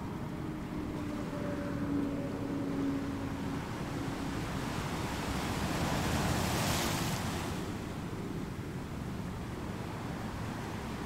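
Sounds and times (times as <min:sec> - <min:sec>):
wind and water hiss: 0:00.0 - 0:11.0.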